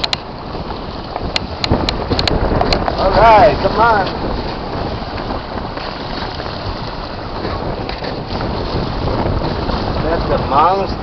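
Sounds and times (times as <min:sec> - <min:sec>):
choppy water washing: 0:00.0 - 0:11.0
wind buffeting microphone: 0:00.0 - 0:11.0.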